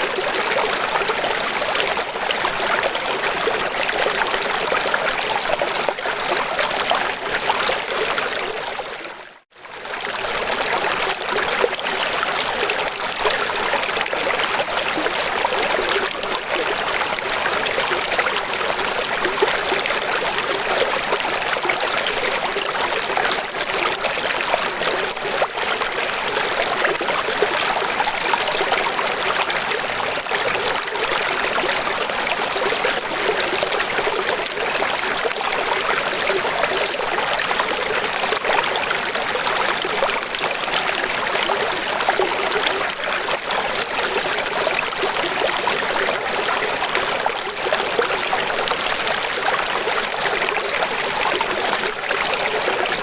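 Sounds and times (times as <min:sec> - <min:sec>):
running water flowing: 0:00.0 - 0:53.0.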